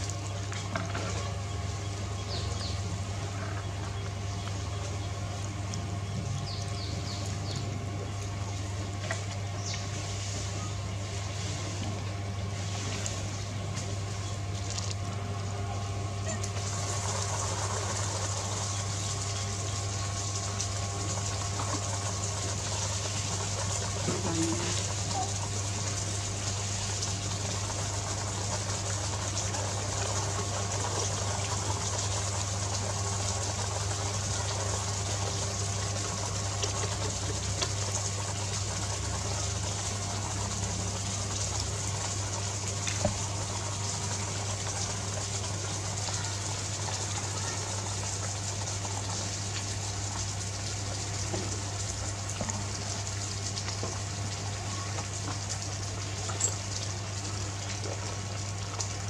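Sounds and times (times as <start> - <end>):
constant low hum: 0.0 - 59.0.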